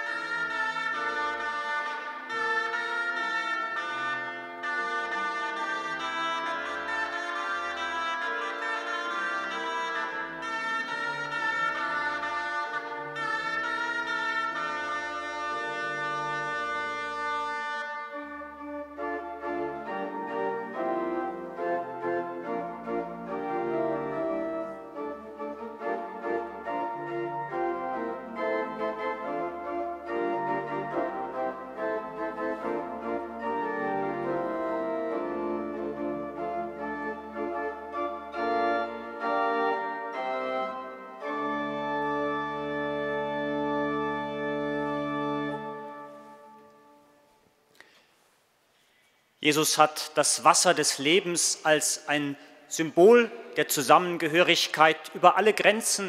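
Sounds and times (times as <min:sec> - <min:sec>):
pipe organ playing chords: 0:00.0 - 0:47.4.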